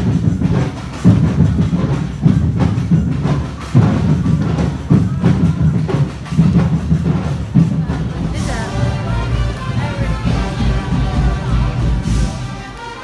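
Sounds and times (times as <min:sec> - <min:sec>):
drums playing a steady beat: 0:00.0 - 0:13.0.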